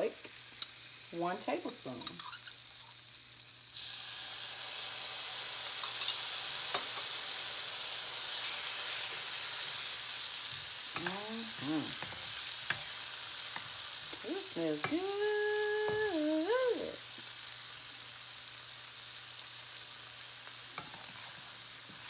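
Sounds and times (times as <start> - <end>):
butter and garlic sizzling in pan: 0.0 - 22.0.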